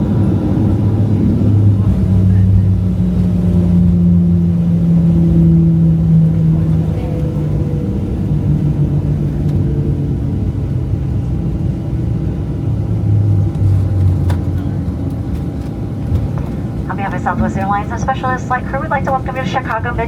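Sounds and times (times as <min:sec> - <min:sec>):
jet engines humming: 0:00.0 - 0:20.0.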